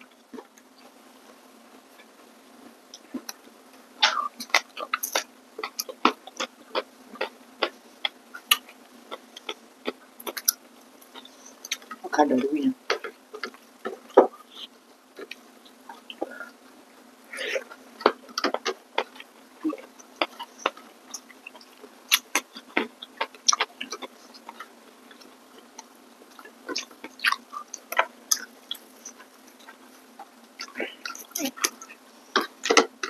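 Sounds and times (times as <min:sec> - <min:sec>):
mouth chewing clicks and smacks: 0:03.0 - 0:12.0, 0:12.9 - 0:16.5, 0:17.6 - 0:33.0.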